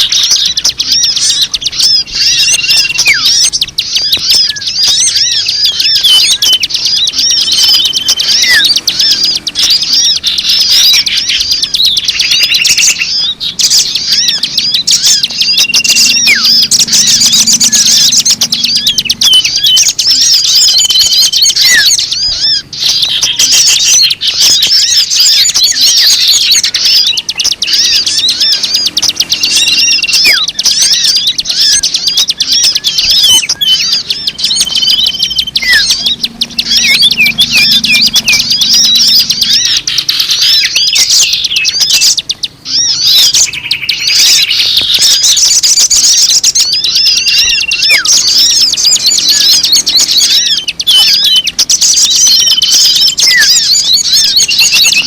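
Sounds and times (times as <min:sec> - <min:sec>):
songbirds chirping and trilling: 0:00.0 - 0:55.0
whistled bird notes: 0:00.0 - 0:55.0.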